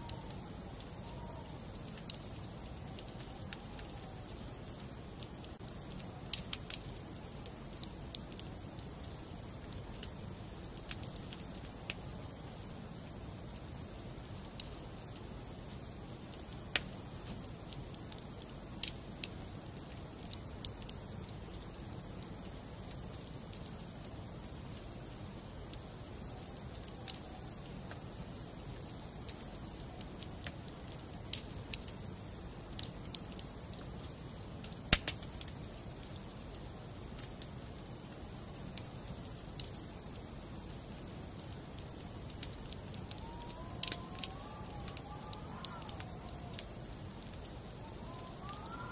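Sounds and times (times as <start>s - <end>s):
crackles and pops of burning logs: 0.0s - 48.9s.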